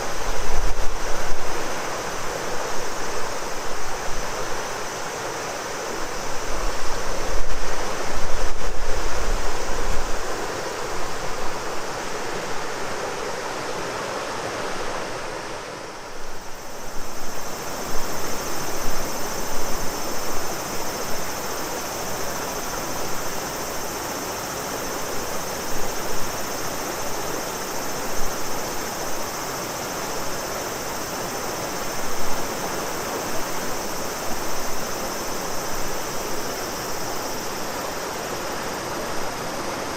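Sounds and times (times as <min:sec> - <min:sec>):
cicada drone: 0:00.0 - 0:39.9
river water rushing: 0:00.0 - 0:39.9.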